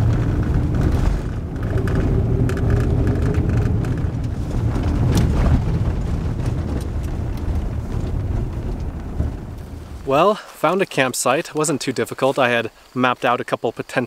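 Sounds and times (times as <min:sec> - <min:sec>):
car driving on gravel road: 0:00.0 - 0:11.4.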